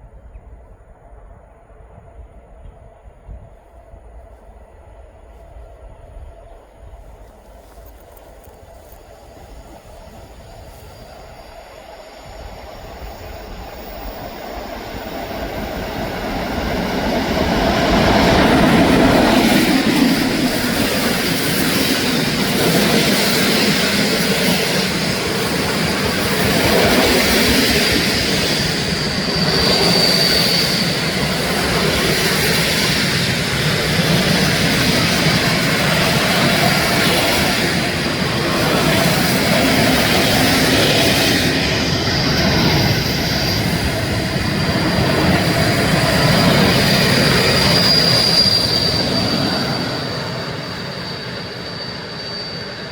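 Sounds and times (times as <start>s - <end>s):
train rumbling on rails: 0.0s - 52.9s
high wheel squeal: 8.0s - 52.9s.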